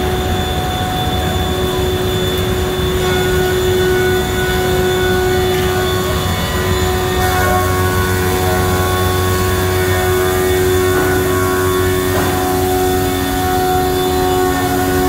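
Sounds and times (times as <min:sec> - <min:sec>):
wood planer machine whine: 0:00.0 - 0:15.0.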